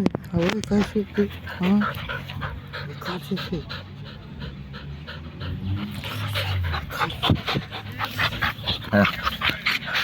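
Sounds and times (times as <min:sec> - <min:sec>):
dog panting: 0:00.8 - 0:10.0.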